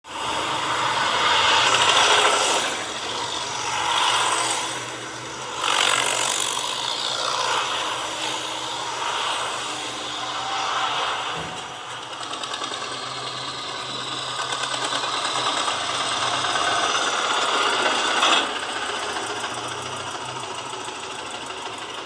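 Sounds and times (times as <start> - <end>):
tractor engine running: 0.0 - 22.0
machine rattling and scraping: 0.1 - 22.0.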